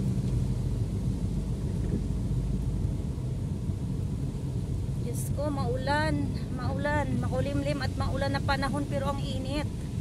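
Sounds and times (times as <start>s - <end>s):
car engine rumble from inside: 0.0s - 10.0s
tyres on a wet road: 0.0s - 10.0s.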